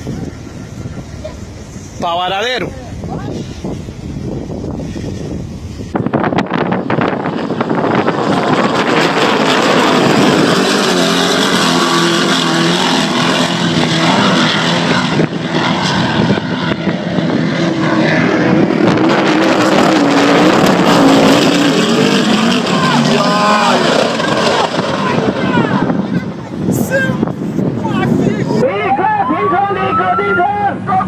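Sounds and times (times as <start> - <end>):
powerboat engines droning: 0.0 - 31.0.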